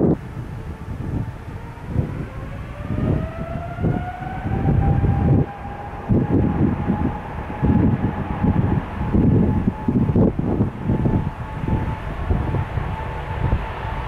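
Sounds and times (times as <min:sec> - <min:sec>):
aircraft engine whine: 0:00.0 - 0:14.0
wind buffeting microphone: 0:00.0 - 0:14.0.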